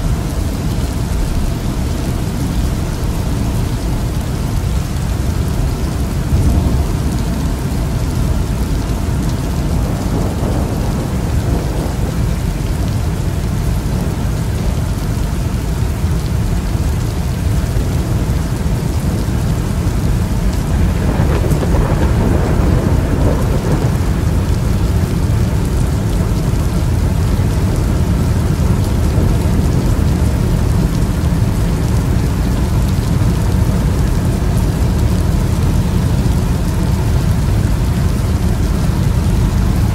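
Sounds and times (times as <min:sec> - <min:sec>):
heavy rain: 0:00.0 - 0:39.9
thunder rumbling: 0:00.2 - 0:15.8, 0:17.5 - 0:39.9.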